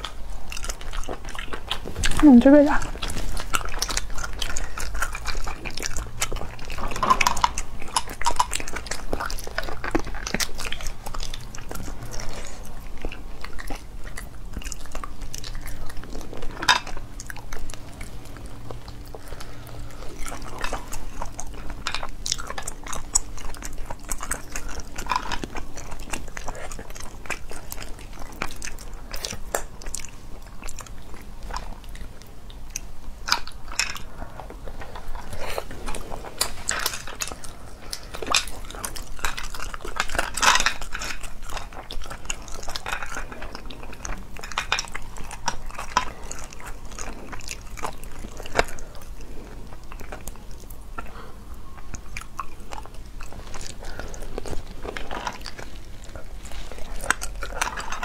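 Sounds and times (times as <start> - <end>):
chewing and slurping: 0.0 - 58.0.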